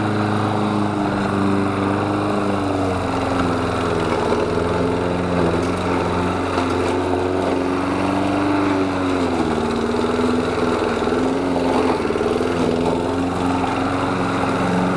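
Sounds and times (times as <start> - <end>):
lawn mower engine running: 0.0 - 14.9.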